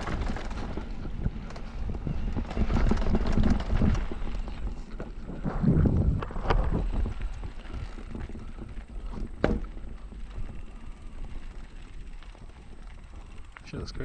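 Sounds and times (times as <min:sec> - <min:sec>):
bike rattling on dirt trail: 0:00.0 - 0:14.0.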